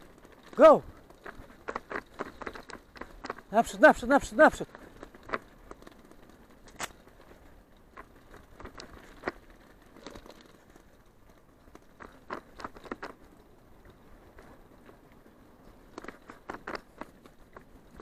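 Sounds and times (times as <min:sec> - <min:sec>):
tyres crunching over dirt trail: 0:00.0 - 0:18.0.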